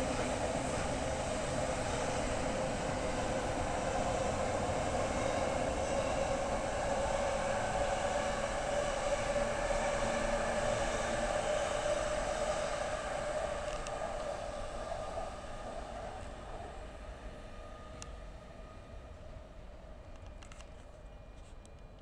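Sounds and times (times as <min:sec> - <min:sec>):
electric train passing: 0:00.0 - 0:20.4.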